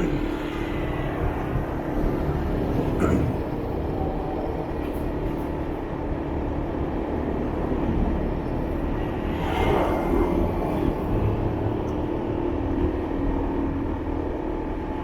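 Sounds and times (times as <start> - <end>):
motorbike engine hum: 0.0 - 13.0
passing traffic: 0.0 - 15.0
road and wind noise: 0.0 - 15.0.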